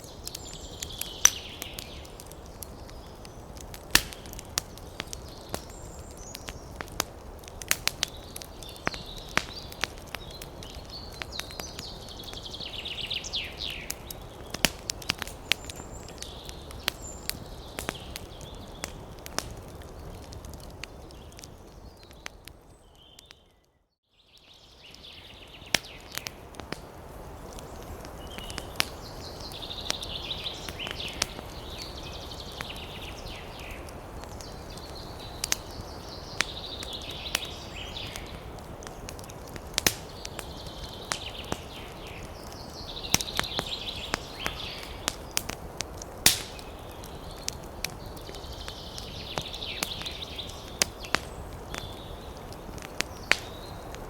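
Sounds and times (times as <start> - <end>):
wood fire crackling: 0.0 - 23.8, 24.4 - 54.0.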